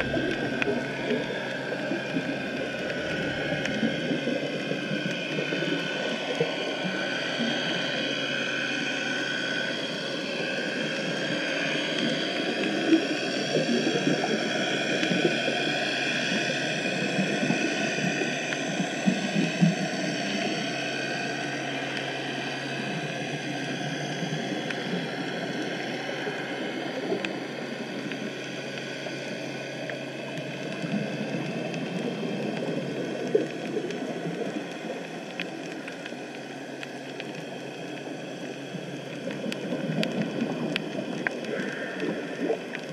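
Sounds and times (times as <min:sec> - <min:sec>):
muffled underwater rushing: 0:00.0 - 0:42.9.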